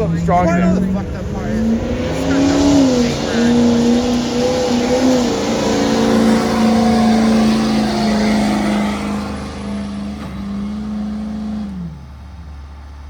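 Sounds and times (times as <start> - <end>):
diesel truck engine at high revs: 0.0 - 13.0.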